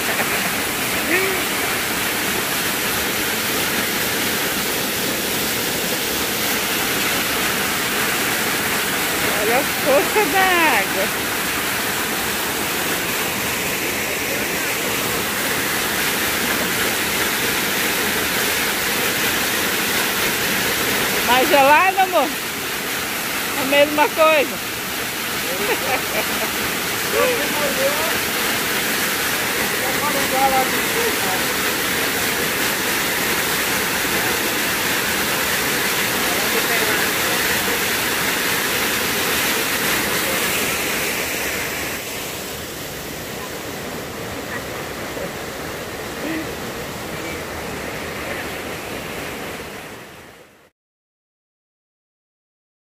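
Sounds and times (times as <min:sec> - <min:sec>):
waterfall pouring into pool: 0:00.0 - 0:50.0.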